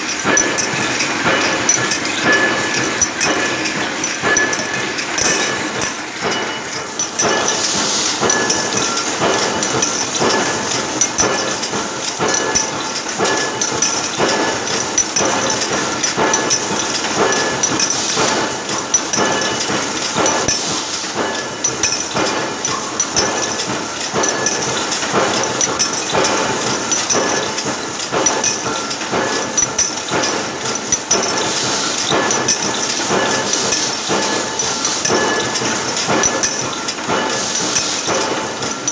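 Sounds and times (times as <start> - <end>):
machine hissing: 0.0 - 38.9
metal knocks clattering: 0.0 - 38.9.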